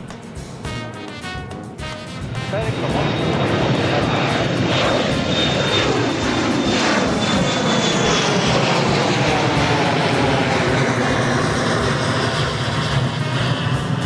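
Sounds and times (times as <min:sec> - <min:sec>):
jet engines roaring: 0:00.0 - 0:14.0
high engine whine: 0:02.5 - 0:14.0.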